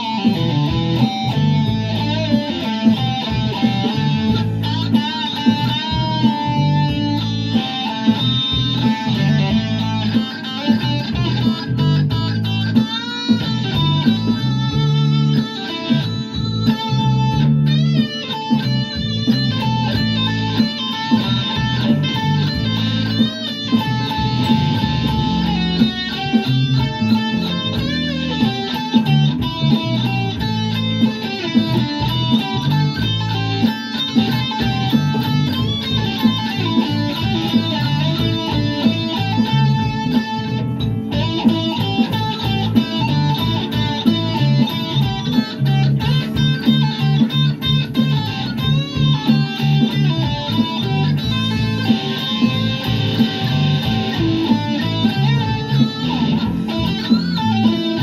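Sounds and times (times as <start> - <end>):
electric guitar lead line: 0.0 - 58.0.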